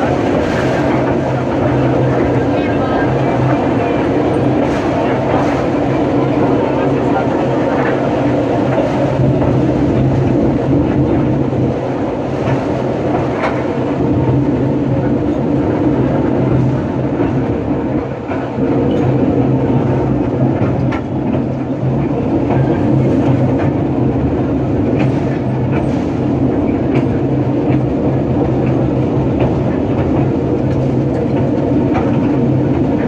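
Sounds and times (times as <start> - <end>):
train engine drone: 0.0 - 33.0.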